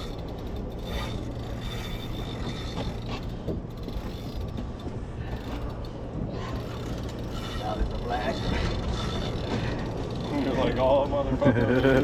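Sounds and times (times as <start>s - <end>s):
boat engine droning: 0.0s - 12.0s
wind: 0.0s - 12.0s.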